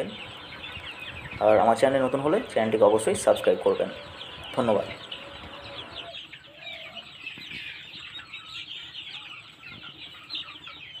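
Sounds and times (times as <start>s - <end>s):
chicks peeping in chorus: 0.0s - 11.0s.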